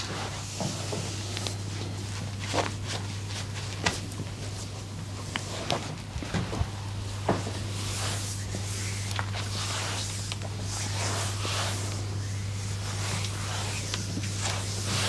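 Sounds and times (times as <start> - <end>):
soft rubbing and rustling: 0.0 - 15.0
steady low hum: 0.0 - 15.0.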